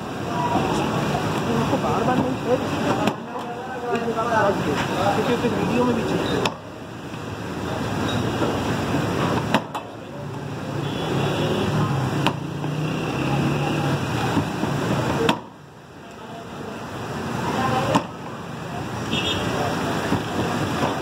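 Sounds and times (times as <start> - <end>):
people's voices: 0.0 - 8.3, 9.2 - 21.0
traffic: 0.0 - 21.0.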